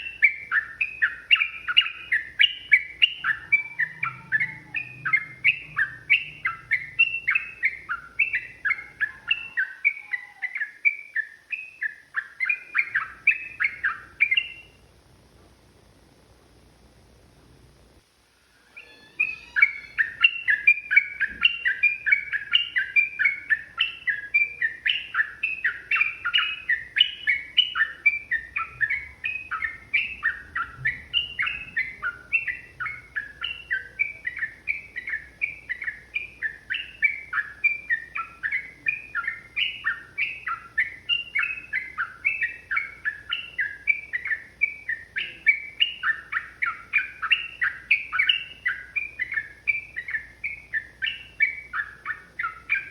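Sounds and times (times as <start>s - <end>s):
bulbul singing whistled phrases: 0.0s - 14.9s, 18.6s - 52.9s.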